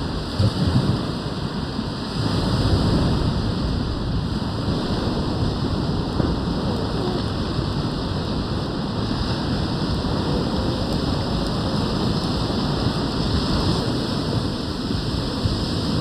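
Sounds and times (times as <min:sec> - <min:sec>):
rushing water: 0:00.0 - 0:16.0
wind buffeting microphone: 0:00.0 - 0:16.0.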